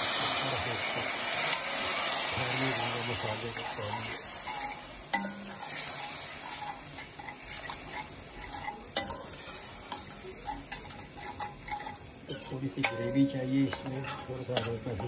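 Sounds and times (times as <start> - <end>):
spice paste sizzling in oil: 0.0 - 15.0
wooden spatula scraping pot: 2.8 - 15.0.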